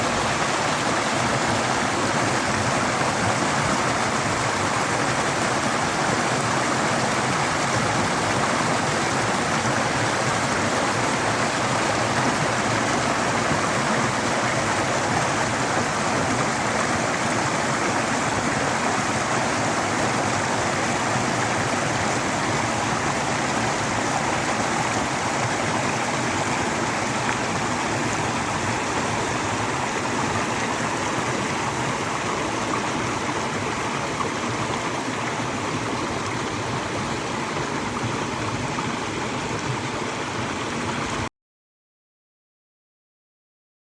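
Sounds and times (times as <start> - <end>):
stream of water flowing: 0.0 - 41.3.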